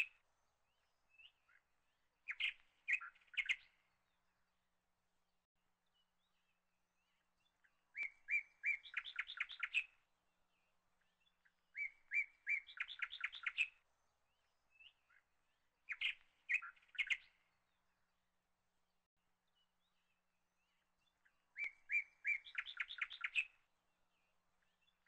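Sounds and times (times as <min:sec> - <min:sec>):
small bird singing trills: 0:00.0 - 0:04.2, 0:05.8 - 0:10.0, 0:10.6 - 0:18.1, 0:19.5 - 0:25.0.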